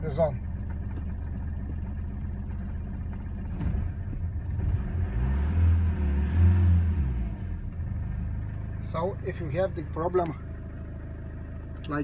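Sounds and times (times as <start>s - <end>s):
van engine idling and revving: 0.0s - 12.0s.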